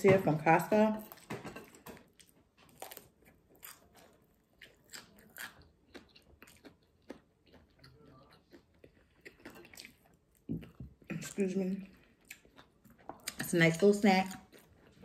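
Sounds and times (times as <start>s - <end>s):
crunching and wet chewing: 1.0s - 15.0s.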